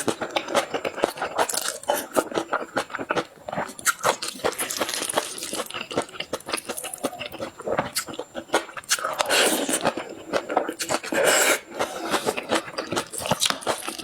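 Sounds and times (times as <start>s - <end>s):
person biting and chewing: 0.0s - 14.0s.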